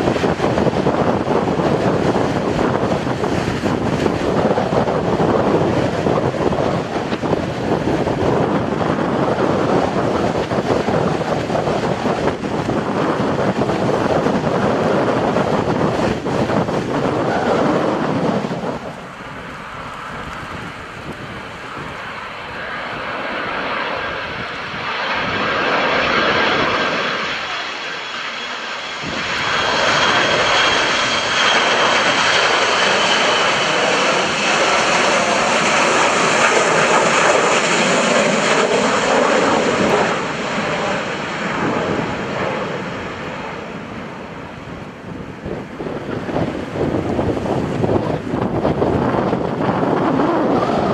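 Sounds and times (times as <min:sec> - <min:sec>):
jet airplane engine noise: 0:00.0 - 0:50.9.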